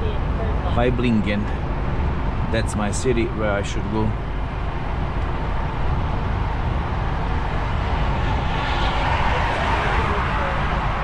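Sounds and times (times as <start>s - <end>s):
diesel truck engine rumble: 0.0s - 11.0s
tyre and road noise: 0.0s - 11.0s.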